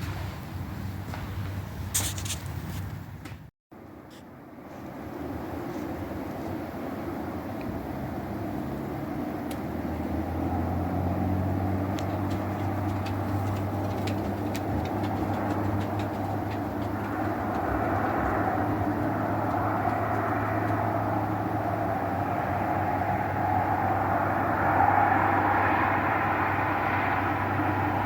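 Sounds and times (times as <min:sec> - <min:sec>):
sawmill engine humming: 0:05.5 - 0:28.0.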